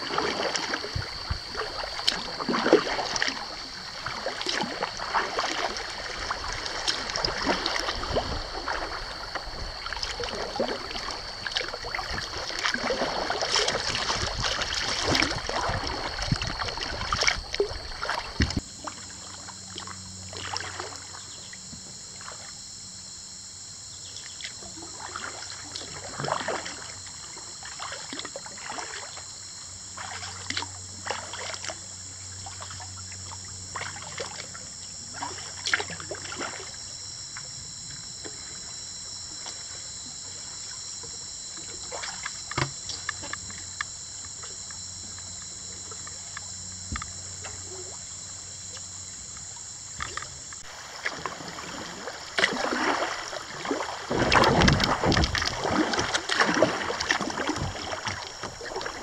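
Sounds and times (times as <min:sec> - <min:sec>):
paddle splashing: 0:00.0 - 0:21.2, 0:27.6 - 0:29.2, 0:30.0 - 0:31.7, 0:32.4 - 0:59.0
insects buzzing: 0:00.0 - 0:59.0.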